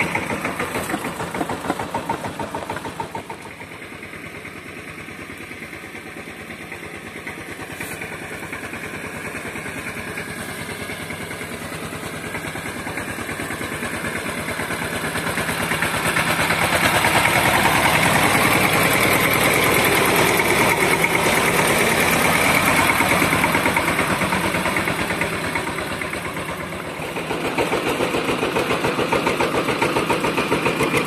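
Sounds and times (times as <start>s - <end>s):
tractor engine chugging: 0.0s - 31.0s.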